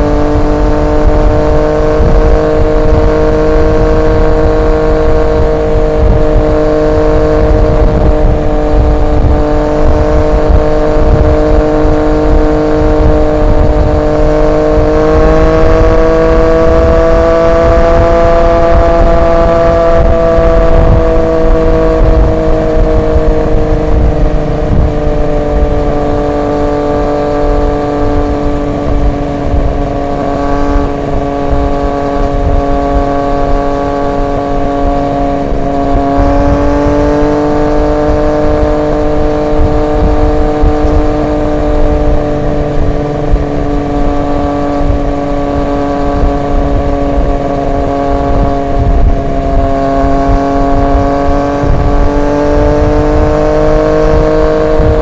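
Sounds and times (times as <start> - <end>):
motorcycle engine cruising: 0.0 - 55.0
wind rumble: 0.0 - 55.0.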